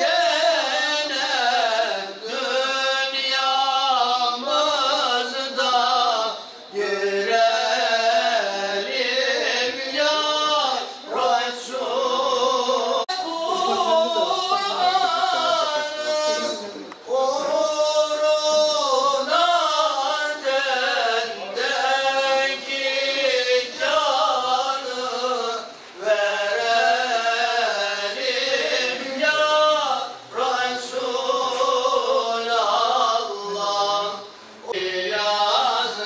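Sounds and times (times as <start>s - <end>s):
man chanting recitation: 0.0s - 36.0s.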